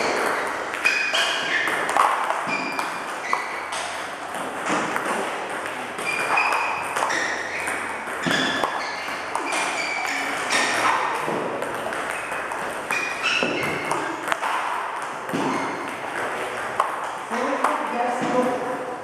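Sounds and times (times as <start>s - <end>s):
table tennis balls clicking: 0.0s - 18.8s.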